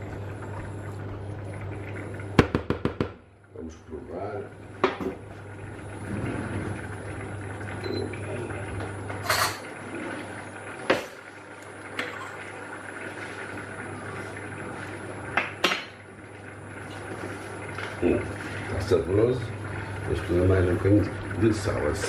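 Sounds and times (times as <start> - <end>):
broth bubbling in a pot: 0.0 - 22.0.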